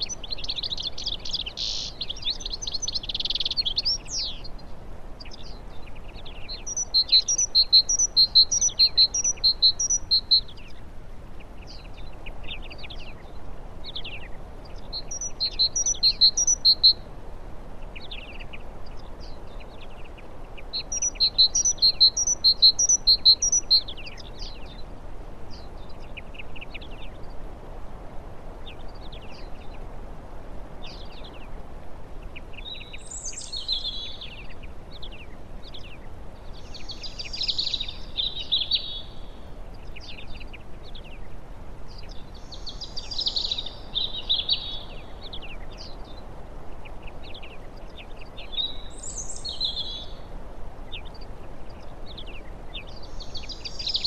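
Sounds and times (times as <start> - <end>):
songbirds chirping: 0.0 - 54.0
steady background hiss: 0.0 - 54.0.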